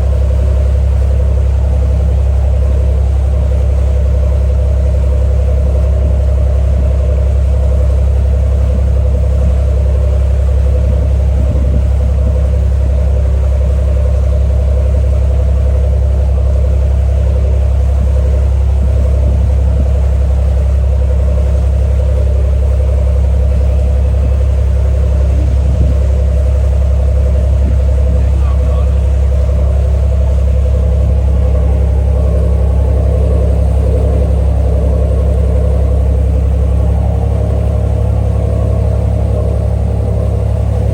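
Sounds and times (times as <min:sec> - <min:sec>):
ferry engine drone: 0:00.0 - 0:40.9
mid-pitched hum: 0:00.0 - 0:40.9.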